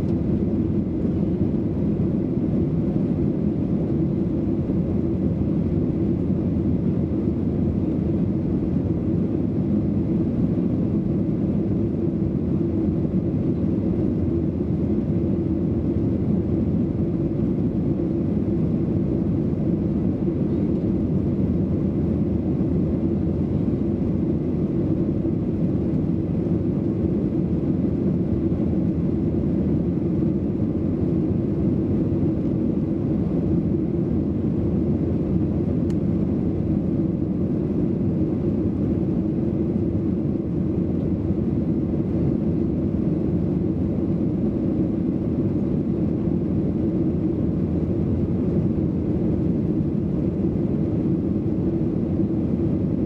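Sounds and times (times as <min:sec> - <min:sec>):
airplane cabin engine drone: 0:00.0 - 0:53.0.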